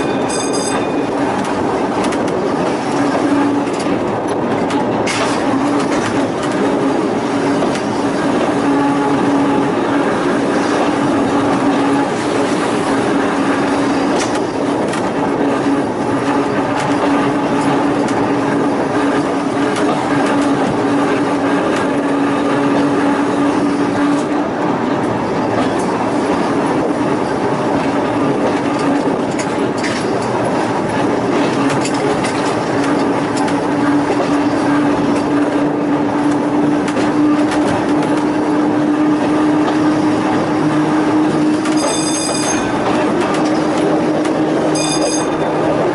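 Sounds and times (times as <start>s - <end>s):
wheels rumbling on rails: 0.0s - 45.9s.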